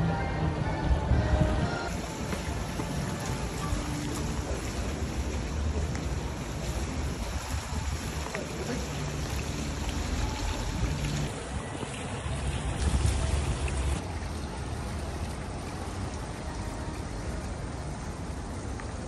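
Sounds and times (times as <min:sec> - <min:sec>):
water rushing down cascade: 0:00.0 - 0:19.0.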